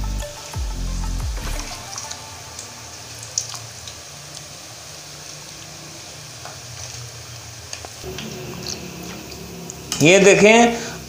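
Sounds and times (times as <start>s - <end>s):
fritters sizzling in hot oil: 0.3s - 11.0s.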